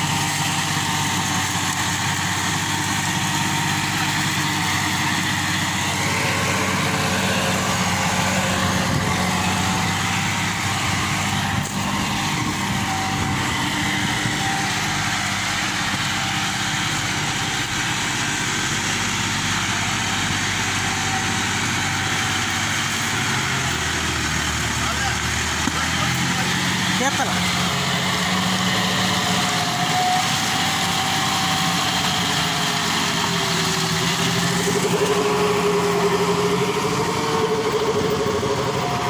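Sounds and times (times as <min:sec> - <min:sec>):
rotary tiller churning soil: 0:00.0 - 0:39.0
tractor diesel engine running: 0:00.0 - 0:39.0.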